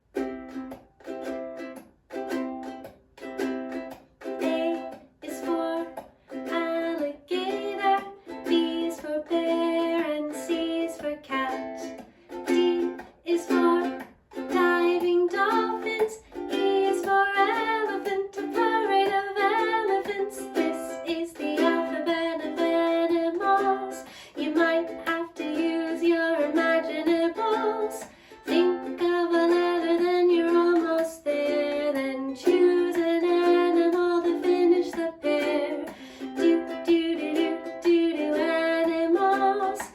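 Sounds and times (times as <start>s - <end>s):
ukulele strumming chords: 0.0s - 39.9s
person singing: 3.7s - 39.9s.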